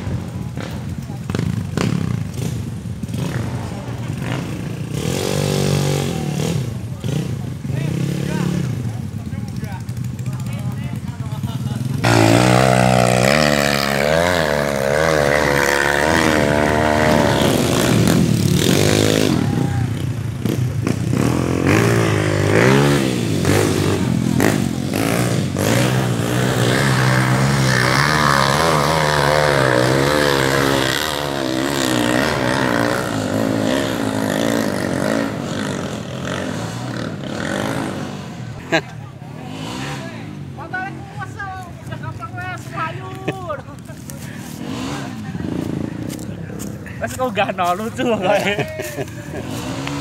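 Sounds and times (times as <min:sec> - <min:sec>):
dirt bike engine revving: 0:00.0 - 0:41.3, 0:43.6 - 0:50.0.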